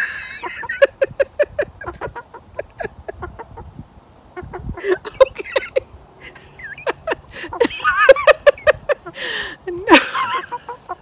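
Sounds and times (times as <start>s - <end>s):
hen clucking: 0.0s - 11.0s.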